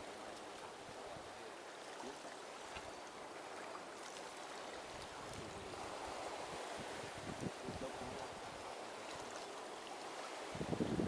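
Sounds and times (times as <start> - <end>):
small waves washing on shore: 0.0 - 11.0.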